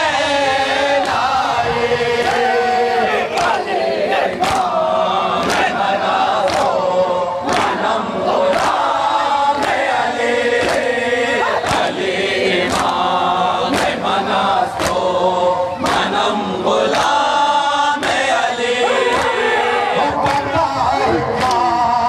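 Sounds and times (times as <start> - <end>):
men chanting a lament in chorus: 0.0 - 22.0.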